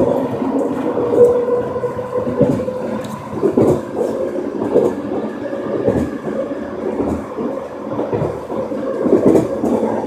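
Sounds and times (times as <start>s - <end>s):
steady train hum: 0.0s - 10.0s
train rolling rumble: 0.0s - 10.0s.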